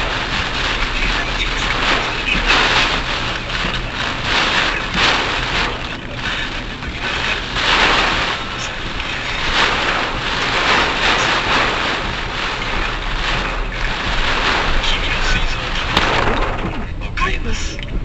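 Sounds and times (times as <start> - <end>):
hiss of rain and spray: 0.0 - 17.9
road rumble inside car: 0.0 - 18.0.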